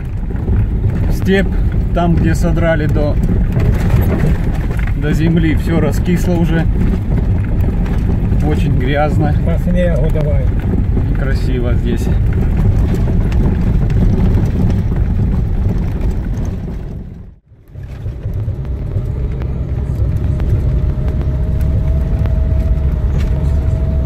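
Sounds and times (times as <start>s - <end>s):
vehicle rumble on rough road: 0.0s - 24.0s.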